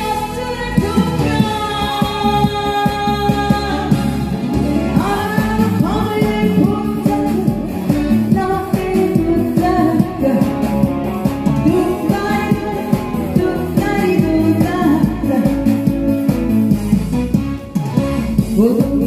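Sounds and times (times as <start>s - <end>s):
woman singing: 0.0s - 16.3s, 18.2s - 19.0s
backing track with steady beat: 0.0s - 19.0s.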